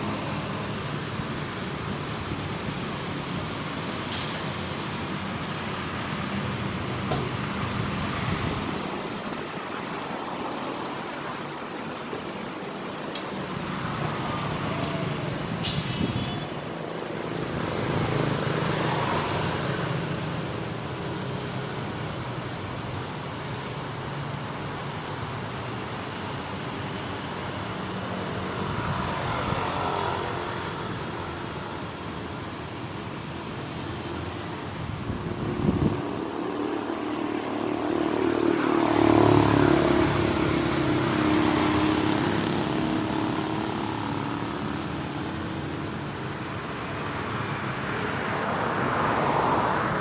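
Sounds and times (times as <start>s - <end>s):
car engines passing: 0.0s - 50.0s
road noise: 0.0s - 50.0s.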